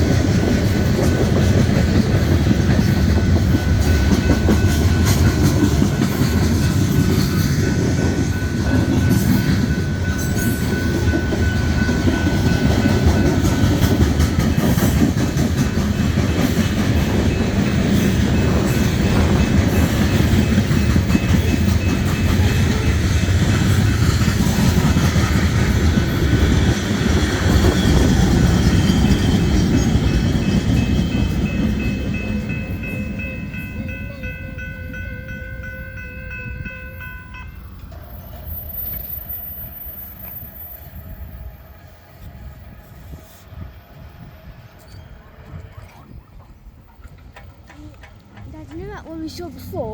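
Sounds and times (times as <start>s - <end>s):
train cars rumbling past: 0.0s - 49.9s.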